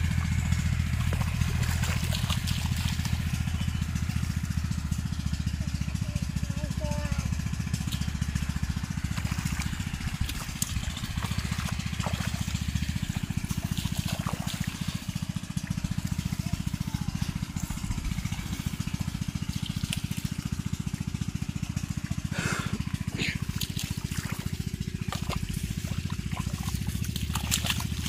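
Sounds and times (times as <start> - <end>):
water trickling and splashing: 0.0 - 6.1, 7.4 - 28.0
small engine running: 0.0 - 28.0.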